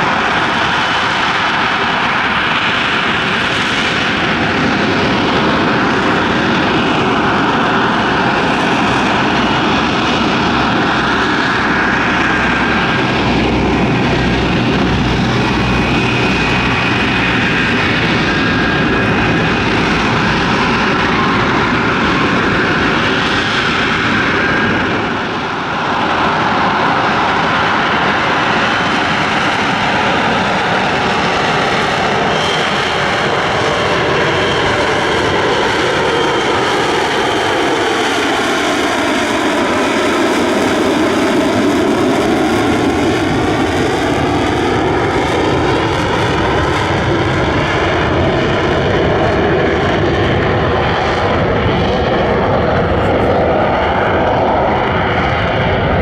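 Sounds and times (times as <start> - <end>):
jet engine roaring: 0.0 - 56.0.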